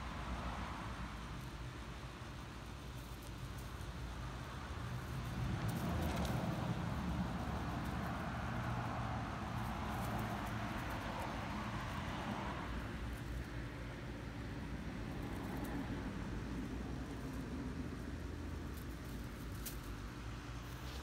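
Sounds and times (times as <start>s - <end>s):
outdoor rushing hum: 0.0s - 21.0s.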